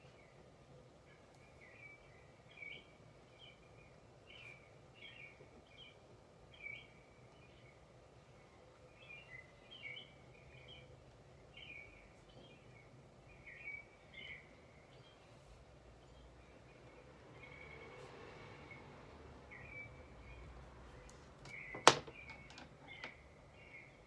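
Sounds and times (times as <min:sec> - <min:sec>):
faint background hum and hiss: 0:00.0 - 0:24.0
small birds chirping: 0:00.0 - 0:24.0.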